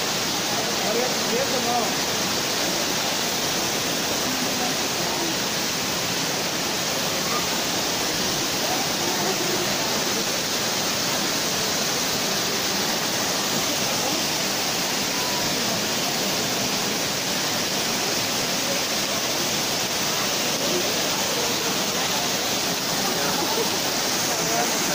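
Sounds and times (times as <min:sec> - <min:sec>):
waterfall splashing onto rocks: 0:00.0 - 0:24.9.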